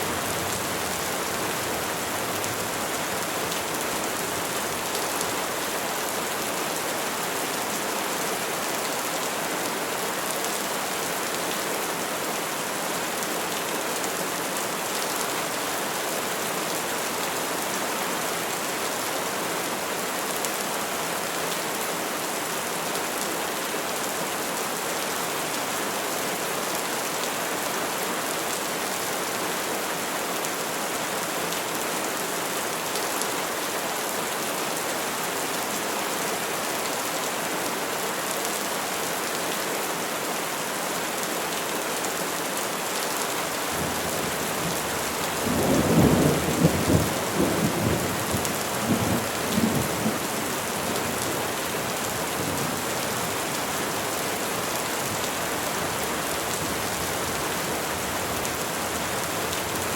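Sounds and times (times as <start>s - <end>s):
rain falling on trees: 0.0s - 59.9s.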